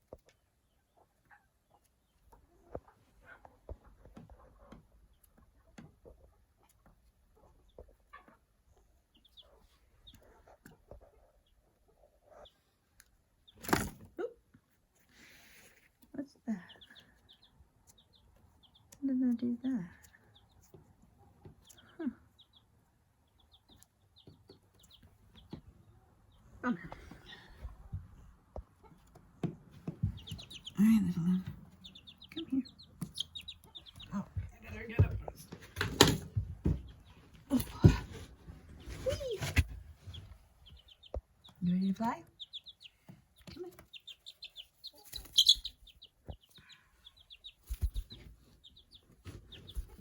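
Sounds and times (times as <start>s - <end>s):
chick peeping: 0.0s - 50.0s.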